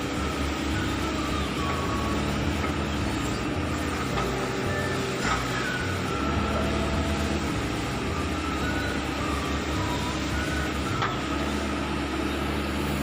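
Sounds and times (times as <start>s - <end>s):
diesel engine running: 0.0s - 13.0s
thin wavering whine: 0.0s - 13.0s.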